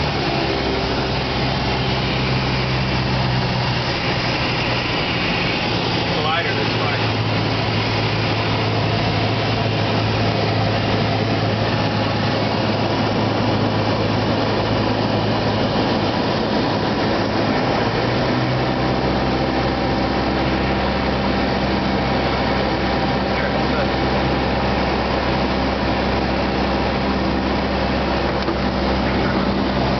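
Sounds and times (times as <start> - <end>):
airplane engine droning: 0.0 - 29.9.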